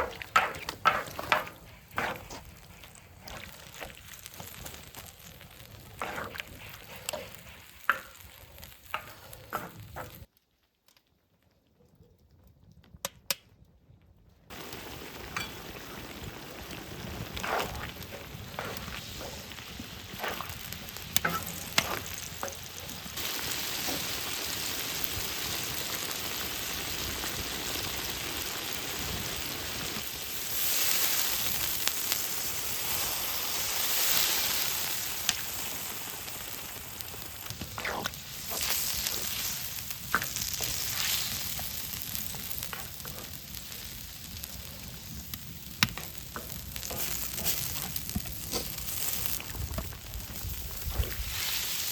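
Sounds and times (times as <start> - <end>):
food sizzling on metal: 0.0 - 10.3, 14.5 - 51.9.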